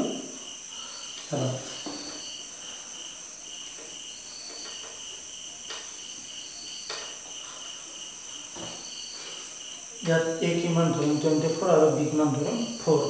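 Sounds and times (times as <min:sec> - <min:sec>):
cricket chirping: 0:00.0 - 0:13.0
steady high whine: 0:00.0 - 0:13.0.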